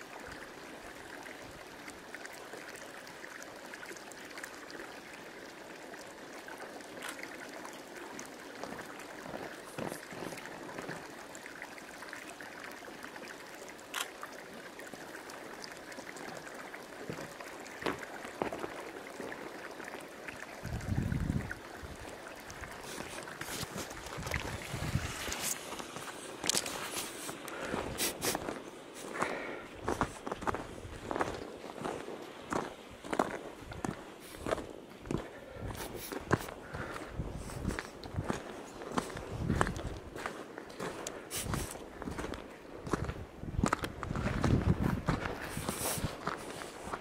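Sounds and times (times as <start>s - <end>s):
water rushing and trickling: 0.0s - 47.0s.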